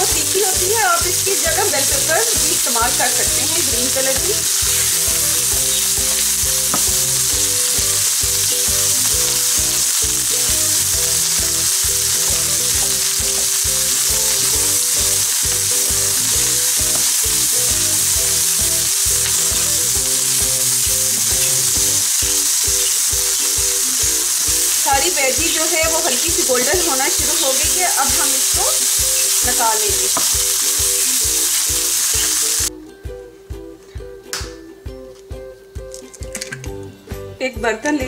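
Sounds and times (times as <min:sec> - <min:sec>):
vegetables sizzling in oil: 0:00.0 - 0:32.7.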